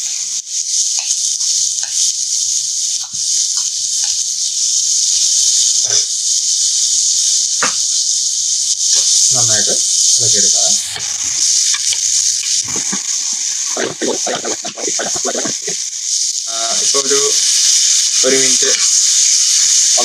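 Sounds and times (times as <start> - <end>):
vegetables sizzling in a skillet: 0.0 - 20.0.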